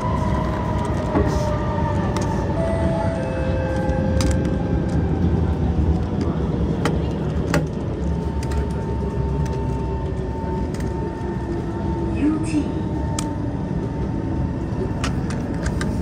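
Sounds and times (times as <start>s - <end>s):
train wheels rumbling on track: 0.0s - 16.0s
train whine: 0.0s - 16.0s.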